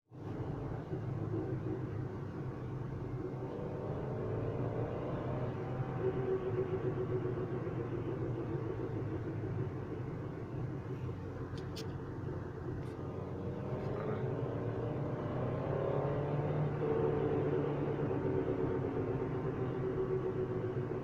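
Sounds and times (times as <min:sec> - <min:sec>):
car engine running: 0:00.2 - 0:21.0.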